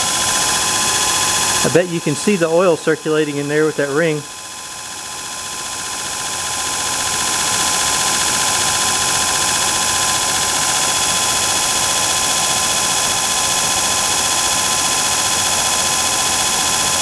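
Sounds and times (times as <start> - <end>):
electric motor humming: 0.0 - 17.0.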